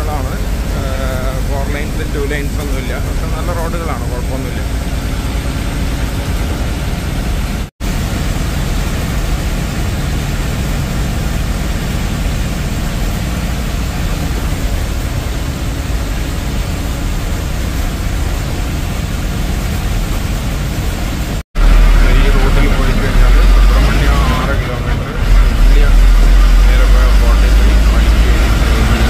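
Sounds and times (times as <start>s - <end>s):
bus engine and road drone: 0.0s - 29.0s.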